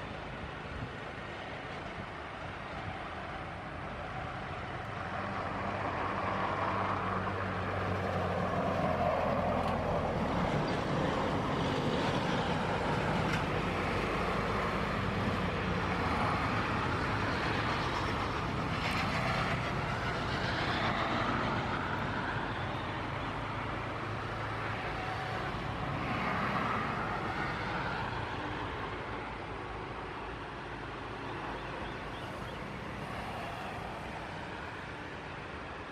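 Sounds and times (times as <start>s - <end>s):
jet engines roaring at taxi: 0.2s - 35.9s.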